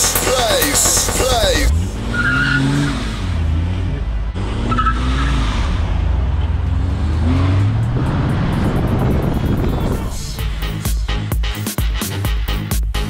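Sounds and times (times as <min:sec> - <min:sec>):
car engine accelerating: 0:00.0 - 0:11.3.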